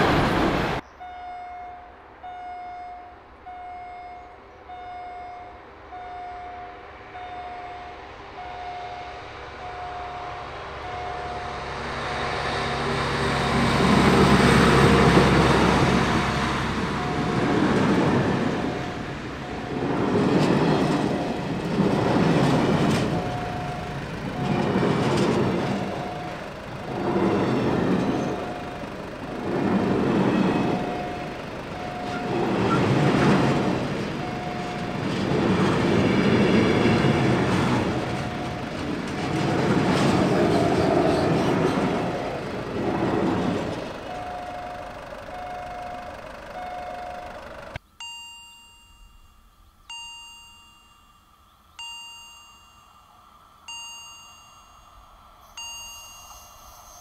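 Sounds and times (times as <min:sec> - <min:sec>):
freight train wagons rumbling: 0:00.0 - 0:47.8
level crossing warning beeps: 0:01.0 - 0:11.6, 0:14.4 - 0:21.5, 0:22.1 - 0:38.9, 0:43.4 - 0:57.0.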